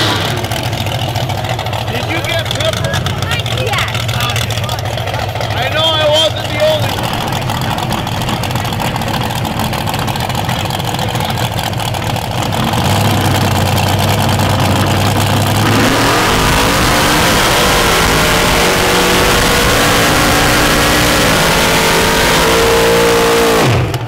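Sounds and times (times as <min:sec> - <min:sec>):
truck engines revving: 0:00.0 - 0:24.0
tyres spinning: 0:00.2 - 0:23.1.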